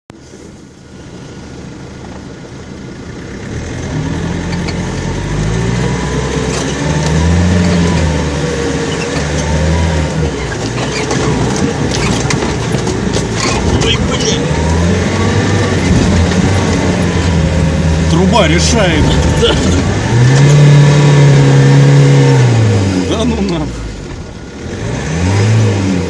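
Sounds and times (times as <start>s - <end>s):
engine revving under load: 3.4s - 26.0s.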